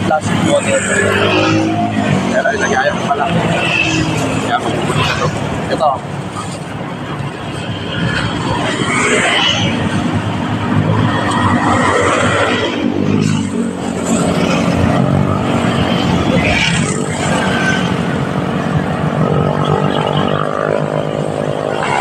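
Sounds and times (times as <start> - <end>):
vehicles driving past on highway: 0.0 - 22.0.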